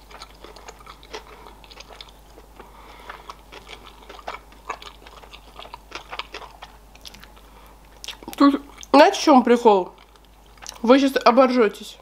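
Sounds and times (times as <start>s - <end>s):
chewing with mouth clicks: 0.0s - 9.0s, 9.8s - 10.9s.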